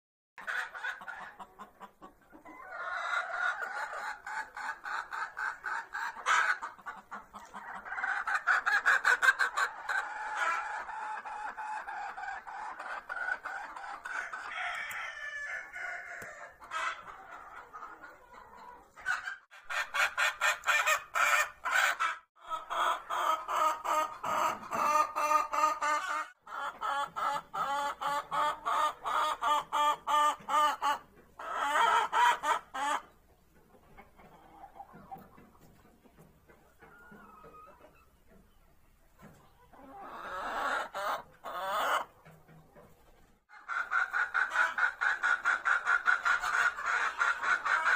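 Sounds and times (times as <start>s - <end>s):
chicken drawn-out call: 0.4s - 33.2s, 39.2s - 42.8s, 43.5s - 47.9s
chickens clucking rapidly: 0.4s - 47.9s.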